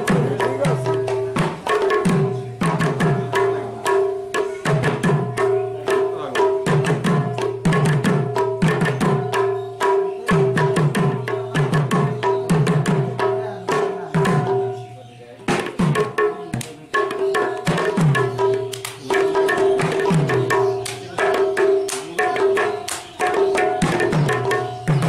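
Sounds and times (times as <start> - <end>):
hand drums fast rhythm: 0.0 - 25.0.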